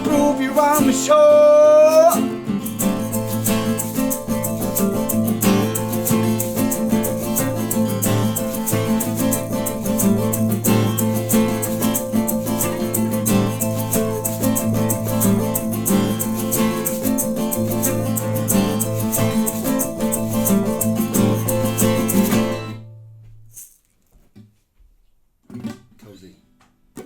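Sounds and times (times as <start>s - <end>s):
shaker rhythm: 0.0s - 1.1s, 1.9s - 22.8s, 23.5s - 23.8s
acoustic guitar music: 0.0s - 23.7s.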